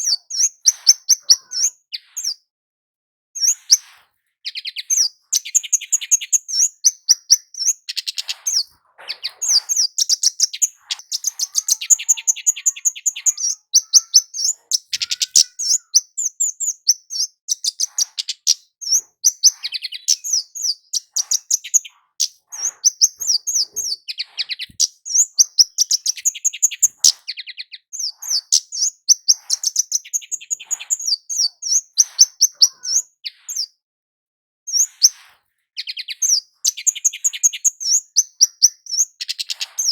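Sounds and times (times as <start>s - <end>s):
bird chips and twitters: 0.0s - 2.4s, 3.4s - 33.8s, 34.7s - 39.9s.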